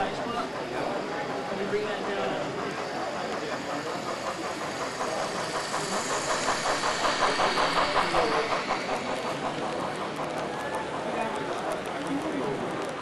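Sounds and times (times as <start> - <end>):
model train running rumble: 0.0 - 13.0
model train wheels clicking over track: 0.0 - 13.0.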